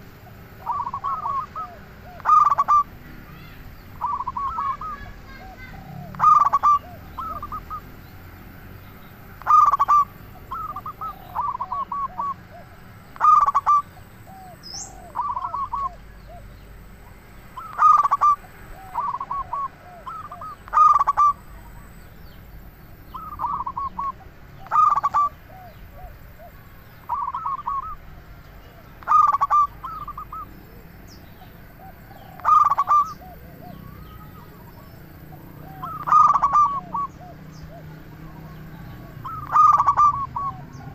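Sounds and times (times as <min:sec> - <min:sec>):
dove cooing: 0:00.0 - 0:08.0, 0:09.4 - 0:40.9.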